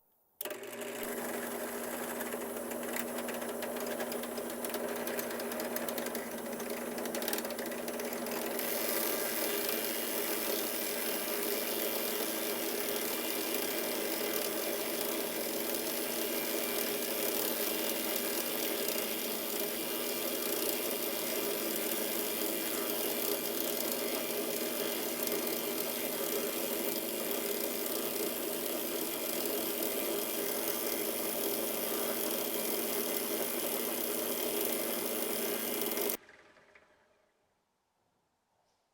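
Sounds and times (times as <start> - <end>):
drill press running: 0.4 - 37.0.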